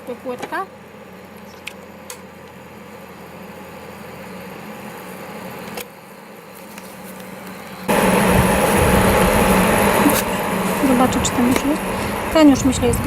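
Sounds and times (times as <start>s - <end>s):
kitchen background hum: 0.0s - 13.0s.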